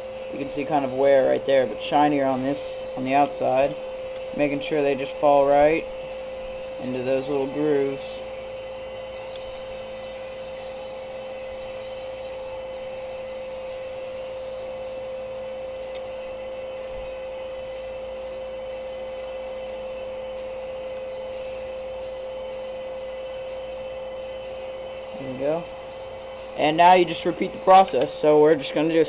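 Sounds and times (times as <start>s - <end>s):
steady single-tone hum: 0.0s - 29.0s.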